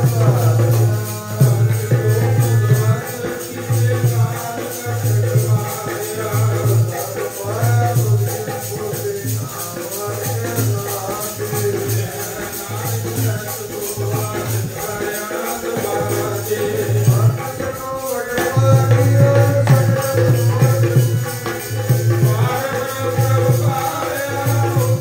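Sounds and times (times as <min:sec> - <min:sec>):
continuous jingling rattle: 0:00.0 - 0:25.0.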